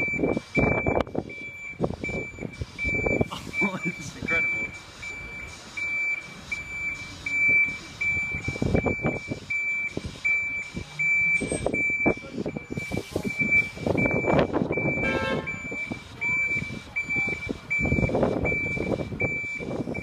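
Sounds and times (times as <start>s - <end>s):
diesel engine rumbling: 0.0s - 20.0s
reversing alarm beeping: 0.0s - 20.0s.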